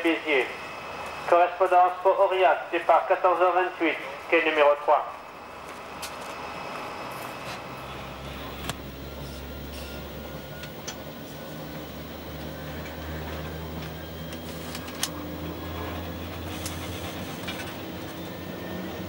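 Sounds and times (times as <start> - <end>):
locomotive low hum: 0.0 - 19.0.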